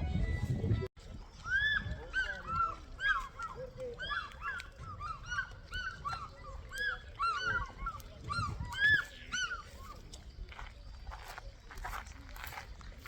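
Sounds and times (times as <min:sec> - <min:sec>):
flock of birds calling: 0:01.1 - 0:12.6.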